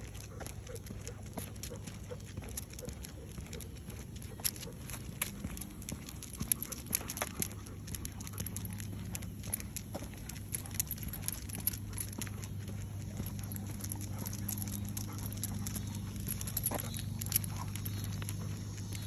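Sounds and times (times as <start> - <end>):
leash hardware clicking and jingling: 0.0 - 19.0.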